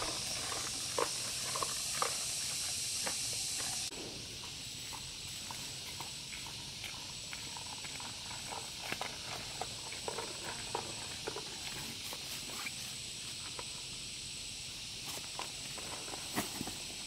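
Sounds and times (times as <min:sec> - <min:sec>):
insect chorus hiss: 0:00.0 - 0:17.0.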